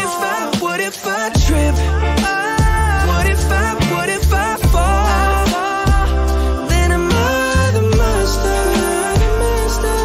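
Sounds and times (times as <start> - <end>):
pop music with bass beat: 0.0 - 10.0.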